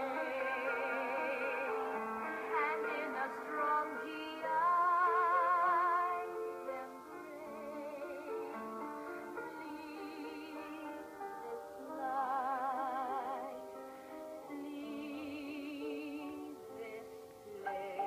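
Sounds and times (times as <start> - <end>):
woman singing operatically: 0.0 - 8.7, 9.4 - 13.7, 14.5 - 18.0
instrumental accompaniment: 0.0 - 18.0.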